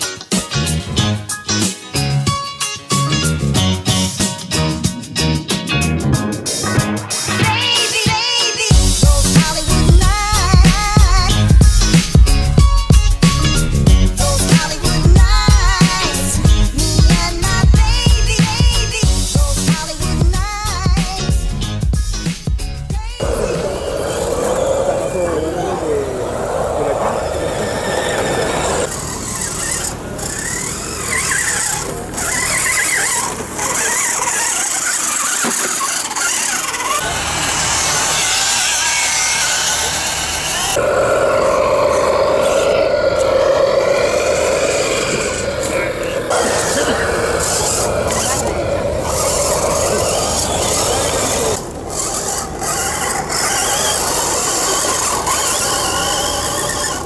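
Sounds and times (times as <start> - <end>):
electric motor and gears whining: 8.7 - 57.0.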